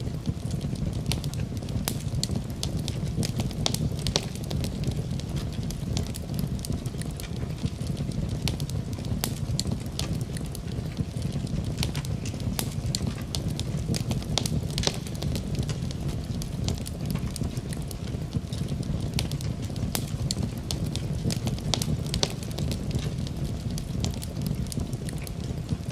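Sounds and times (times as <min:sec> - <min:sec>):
fire crackling and popping: 0:00.0 - 0:25.9
low fire rumble: 0:00.0 - 0:25.9.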